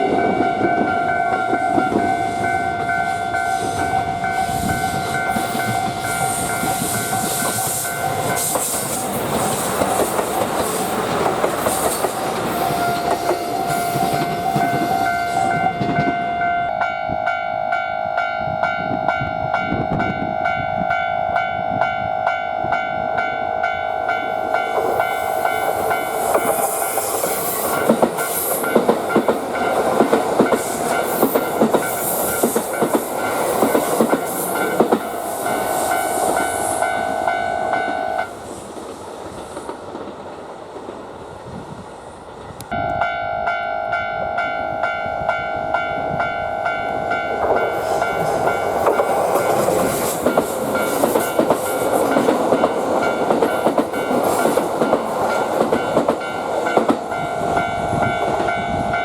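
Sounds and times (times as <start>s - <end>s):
crossing warning bell ringing: 0.0s - 9.1s, 12.1s - 38.3s, 42.7s - 59.0s
train wheels clattering on rails: 0.0s - 16.5s, 24.1s - 41.7s, 44.3s - 59.0s.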